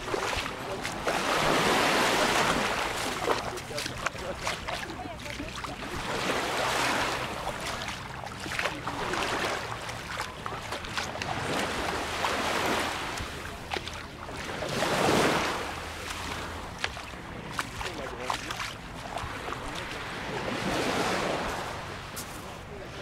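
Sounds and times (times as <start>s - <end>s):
waves washing on pebbly beach: 0.0s - 22.5s.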